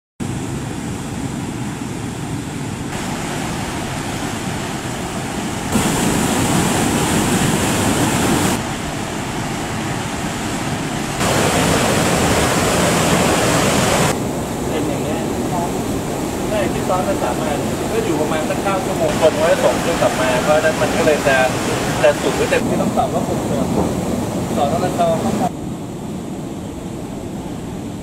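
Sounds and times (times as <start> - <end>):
rushing water: 0.2 - 28.0.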